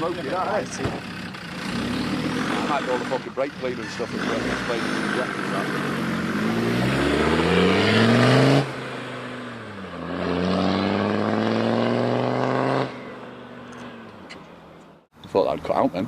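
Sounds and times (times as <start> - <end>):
diesel engine accelerating hard: 0.0 - 14.2.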